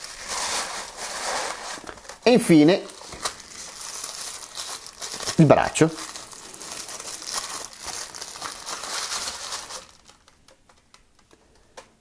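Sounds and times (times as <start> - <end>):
tissue paper crinkling: 0.0 - 10.9.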